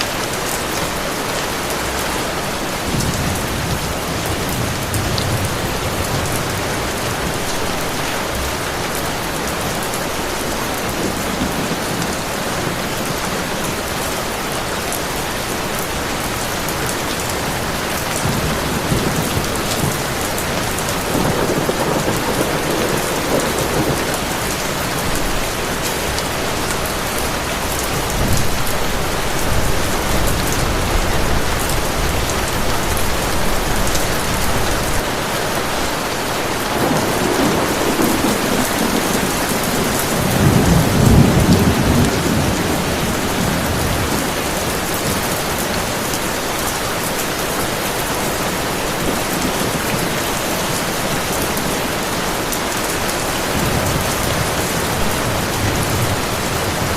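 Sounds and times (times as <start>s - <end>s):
heavy rain: 0.0s - 56.9s
low rolling thunder: 1.8s - 14.6s, 15.4s - 56.9s.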